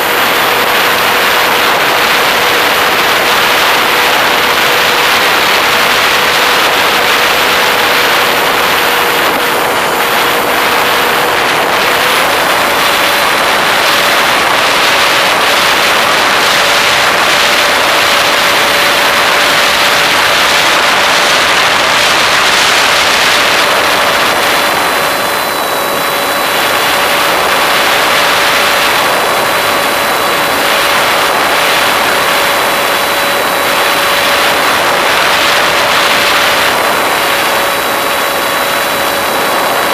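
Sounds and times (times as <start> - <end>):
model airplane motor hum: 0.0 - 39.9
rushing air noise: 0.0 - 39.9.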